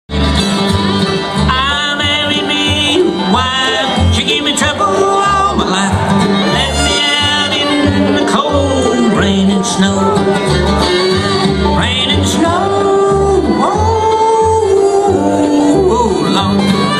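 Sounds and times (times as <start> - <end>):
banjo: 0.1 - 16.9
fiddle: 0.1 - 16.9
guitar: 0.1 - 16.9
upright bass: 0.1 - 16.9.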